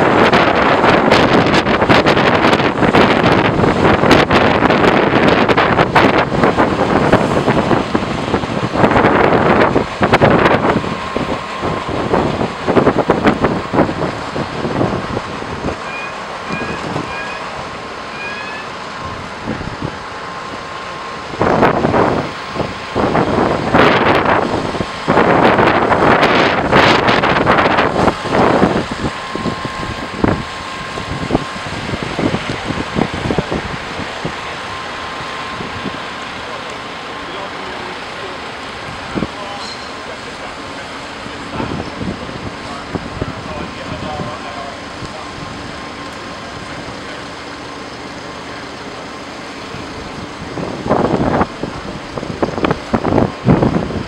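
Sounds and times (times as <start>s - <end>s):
faint steady whine: 0.0s - 54.0s
steady engine hum: 0.0s - 54.0s.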